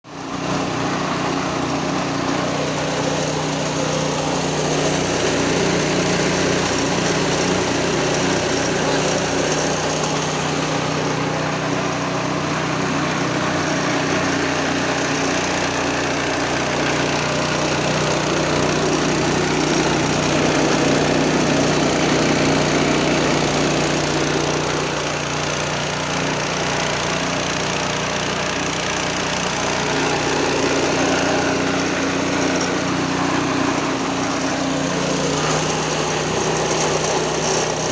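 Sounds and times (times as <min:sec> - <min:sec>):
machine humming and hissing: 0:00.2 - 0:37.9.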